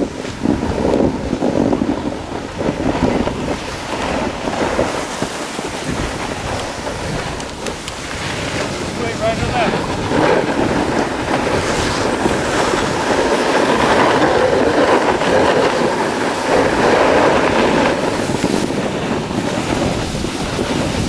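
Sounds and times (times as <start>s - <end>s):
snowboard scraping over snow: 0.0s - 21.0s
wind buffeting microphone: 0.0s - 21.0s.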